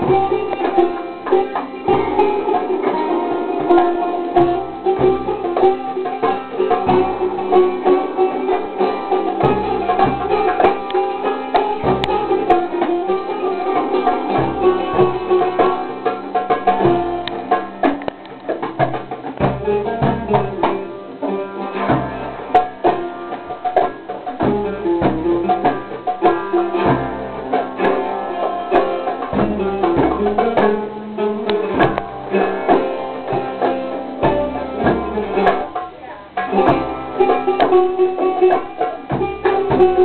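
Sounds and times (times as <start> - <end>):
hand drum strokes: 0.0 - 40.0
plucked string instrument melody: 0.0 - 40.0.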